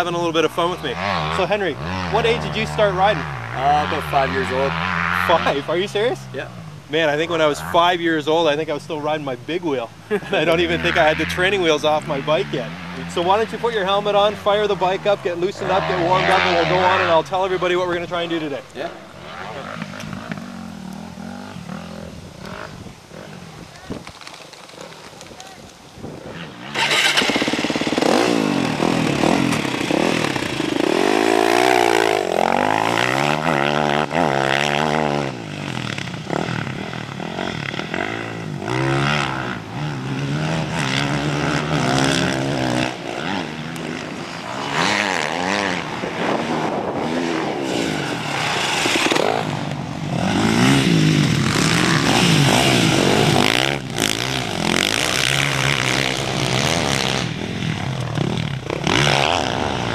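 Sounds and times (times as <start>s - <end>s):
dirt bike engine revving: 0.0s - 23.6s, 26.0s - 59.9s.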